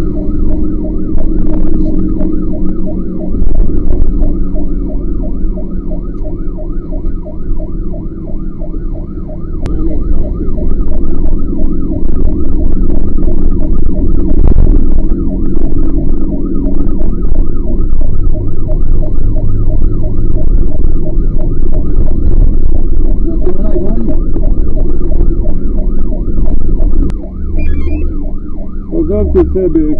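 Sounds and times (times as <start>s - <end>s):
fire truck siren yelping: 0.0s - 29.9s
truck engine and road rumble: 0.0s - 29.9s.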